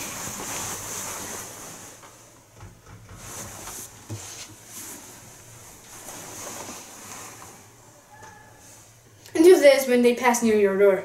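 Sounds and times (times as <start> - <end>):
bedding rustling: 0.0 - 9.0.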